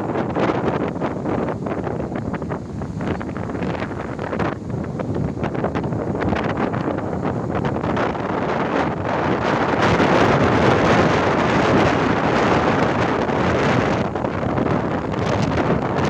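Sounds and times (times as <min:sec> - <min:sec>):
heavy wind on microphone: 0:00.0 - 0:16.0.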